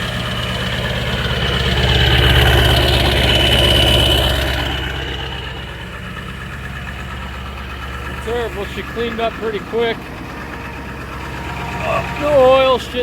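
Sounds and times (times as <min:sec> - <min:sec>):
diesel engine idling: 0:00.0 - 0:13.0
high engine whine: 0:00.0 - 0:13.0.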